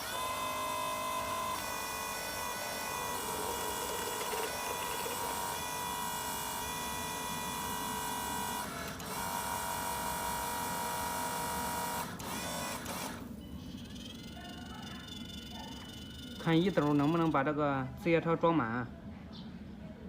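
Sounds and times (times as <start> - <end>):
toy electric motors whining: 0.0 - 17.4.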